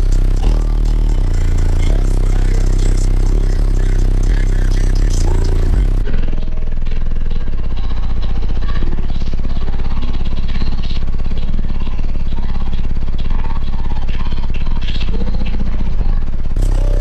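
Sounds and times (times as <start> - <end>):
subwoofer deep bass throbbing: 0.0 - 17.0.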